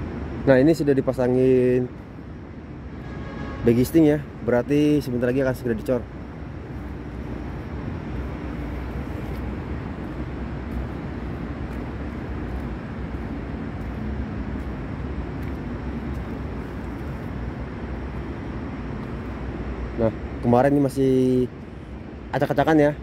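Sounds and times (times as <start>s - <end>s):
faint machinery hum: 0.0s - 23.0s.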